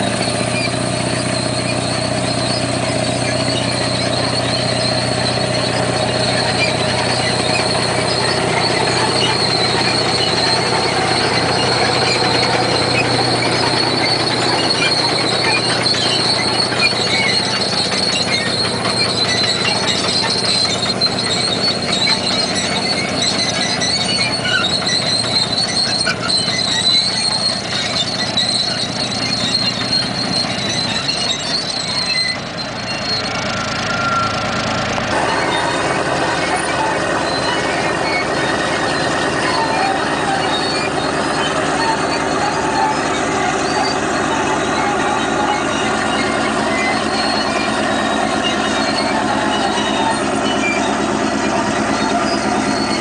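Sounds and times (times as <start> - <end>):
steel tracks squealing: 0.0 - 53.0
tractor engine rumbling: 0.0 - 53.0.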